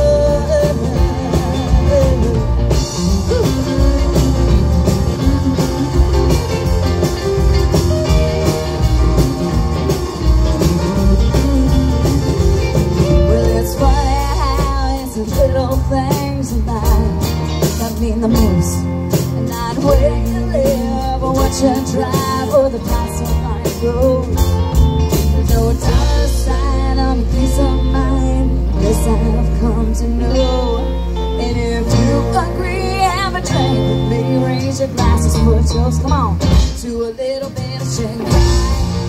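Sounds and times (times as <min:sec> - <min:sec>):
live country-rock band: 0:00.0 - 0:39.0
person singing: 0:00.0 - 0:39.0.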